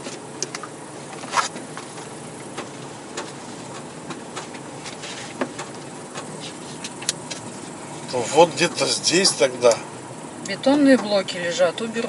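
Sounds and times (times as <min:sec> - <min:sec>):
road noise inside car: 0:00.0 - 0:12.0.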